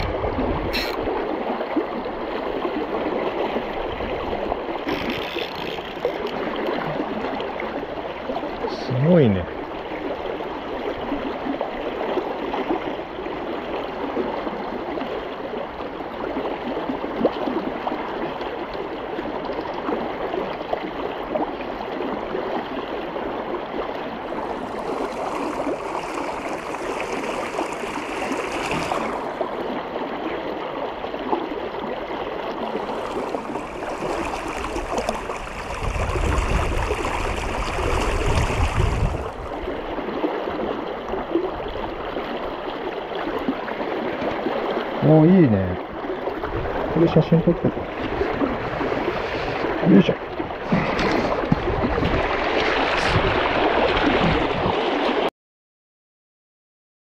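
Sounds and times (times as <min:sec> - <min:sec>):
river water rushing and splashing: 0:00.0 - 0:55.3.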